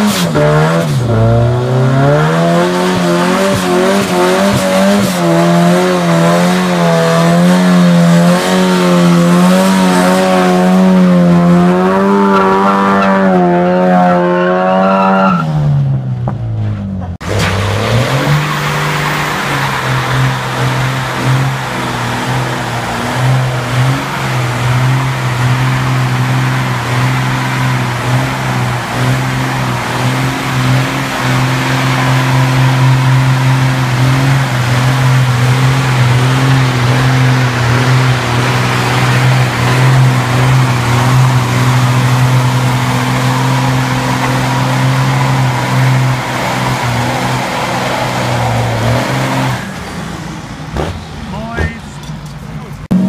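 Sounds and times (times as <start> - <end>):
truck engine at high revs: 0.0 - 53.0.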